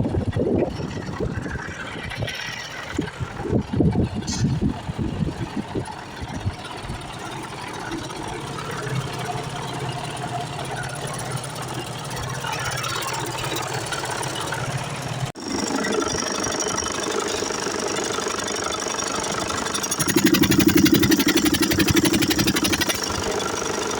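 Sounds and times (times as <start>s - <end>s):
truck diesel engine idling: 0.2s - 23.9s.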